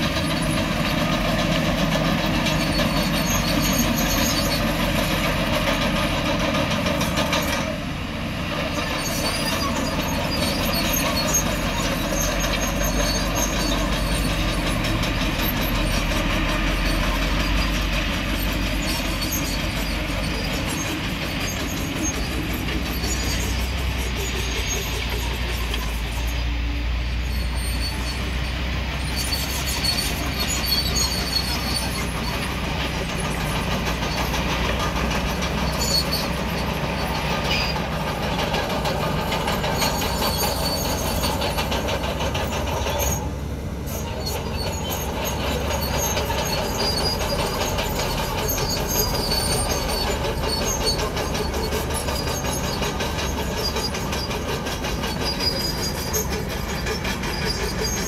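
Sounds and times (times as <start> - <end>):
diesel engine running: 0.0 - 58.0
steel tracks squealing: 0.0 - 58.0.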